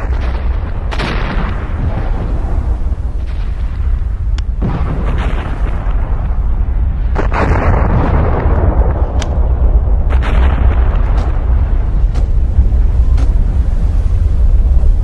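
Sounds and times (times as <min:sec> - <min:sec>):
explosion cracks and bangs: 0:00.0 - 0:15.0
volcano deep rumble: 0:00.0 - 0:15.0.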